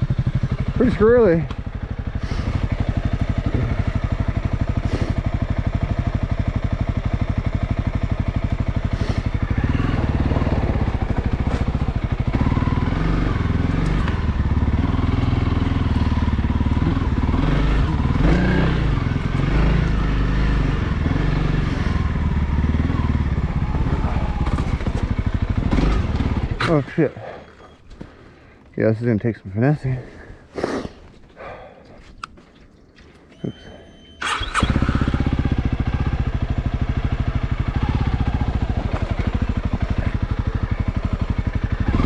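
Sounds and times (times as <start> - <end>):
motorcycle engine revving: 0.0 - 28.2, 33.4 - 42.0.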